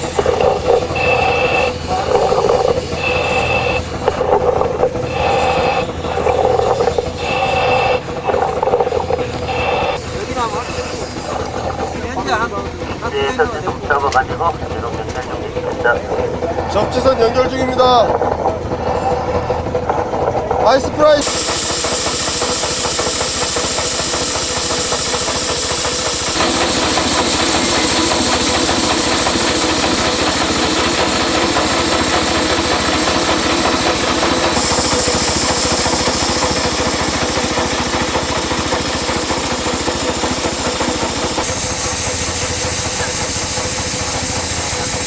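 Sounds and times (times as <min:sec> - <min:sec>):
engine running with knocking beat: 0:00.0 - 0:45.0.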